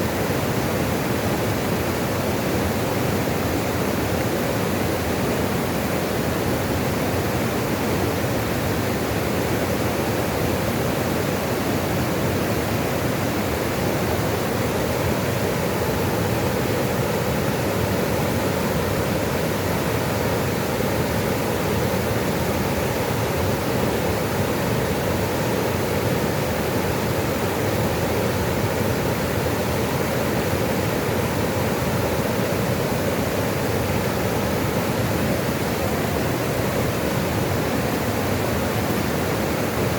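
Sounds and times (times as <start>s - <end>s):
water rushing: 0.1s - 39.9s.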